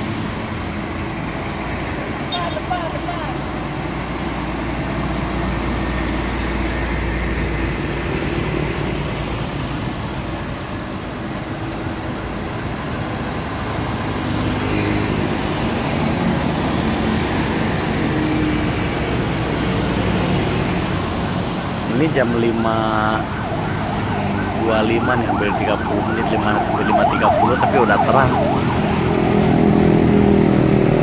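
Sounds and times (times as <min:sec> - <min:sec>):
diesel trucks driving past: 0:00.0 - 0:31.0
road traffic noise: 0:00.0 - 0:31.0.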